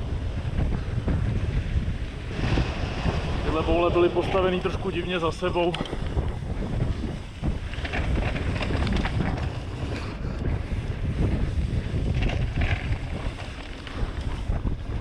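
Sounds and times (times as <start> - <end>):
bike knocks and rattles: 0.0 - 4.8, 5.4 - 15.0
tyre noise on dirt trail: 0.0 - 15.0
wind buffeting microphone: 0.0 - 15.0.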